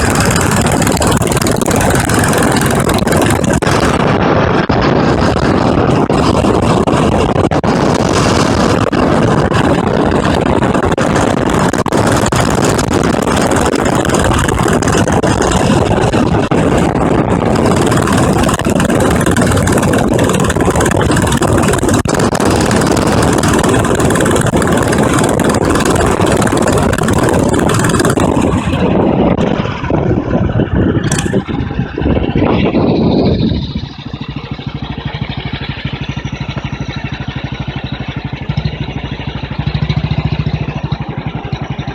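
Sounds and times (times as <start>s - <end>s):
motorcycle engine running: 0.0s - 41.9s
wind noise: 0.0s - 41.9s.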